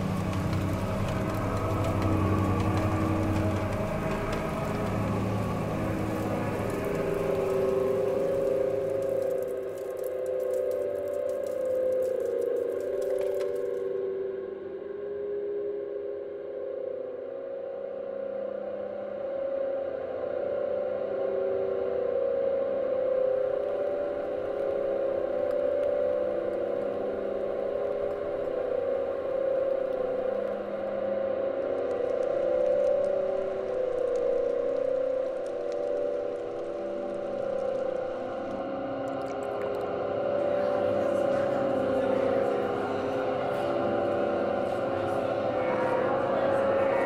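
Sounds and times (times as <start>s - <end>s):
ambient drone music: 0.0s - 47.0s.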